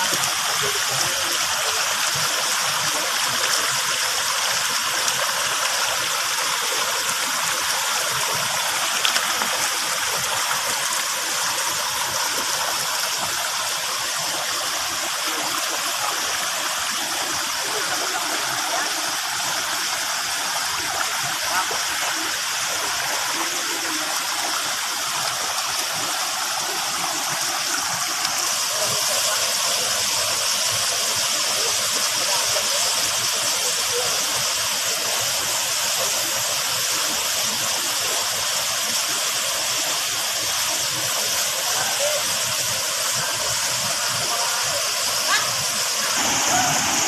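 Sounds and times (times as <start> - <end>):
waterfall rushing and splashing: 0.0 - 47.0.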